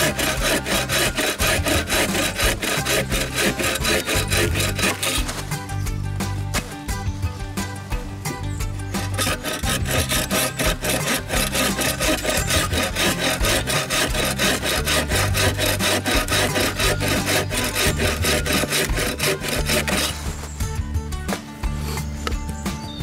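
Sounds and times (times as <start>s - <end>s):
bow saw rasping through wood: 0.0s - 6.8s, 8.8s - 20.7s.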